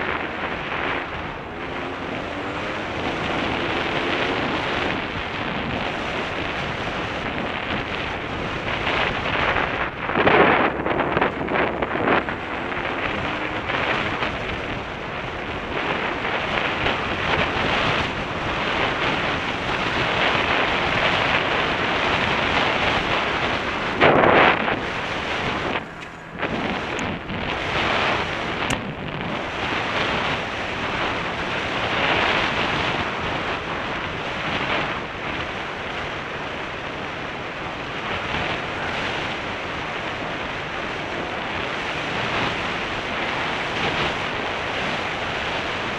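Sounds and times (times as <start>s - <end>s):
wind noise on microphone: 0.0s - 45.9s.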